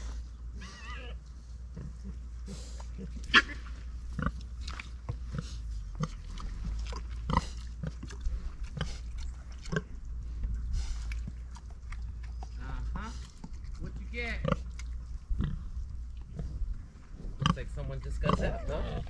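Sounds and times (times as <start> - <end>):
pigs grunting: 0.0 - 19.0.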